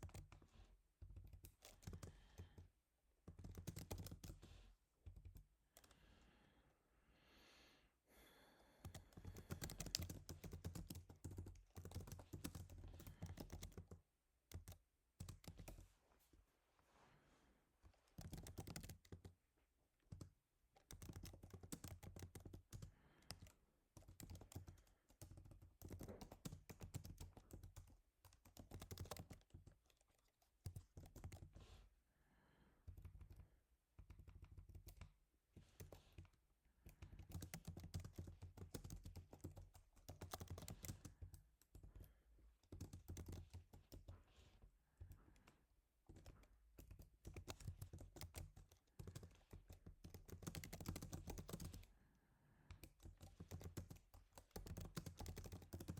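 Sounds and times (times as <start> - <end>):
typing on computer keyboard: 0.0 - 6.0, 8.8 - 15.8, 18.0 - 19.4, 20.0 - 31.7, 32.8 - 44.2, 45.0 - 51.9, 52.7 - 55.9.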